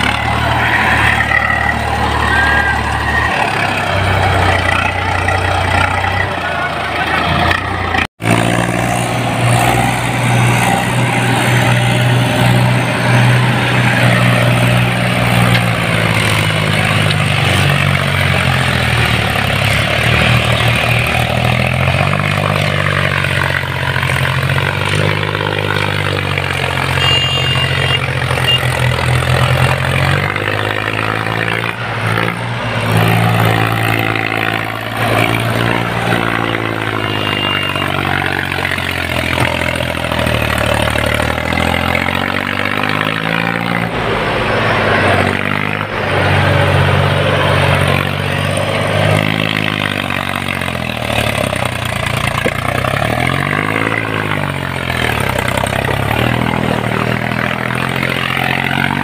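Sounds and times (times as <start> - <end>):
diesel tractor engines under load: 0.0 - 59.0.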